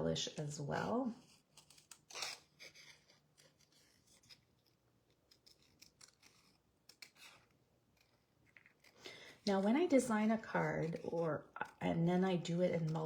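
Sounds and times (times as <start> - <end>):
paper scraping and clicking: 1.2 - 13.0
paper rustling: 1.3 - 13.0.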